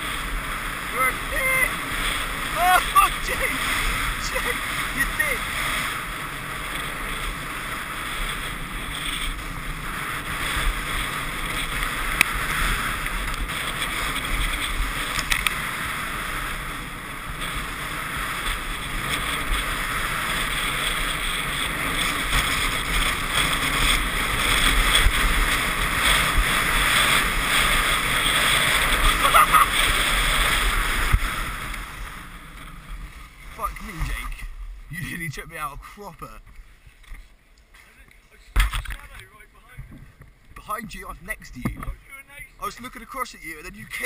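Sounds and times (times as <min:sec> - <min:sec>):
skis hissing over packed snow: 0:00.0 - 0:36.1
wind buffeting camera: 0:00.0 - 0:37.6, 0:38.5 - 0:44.0.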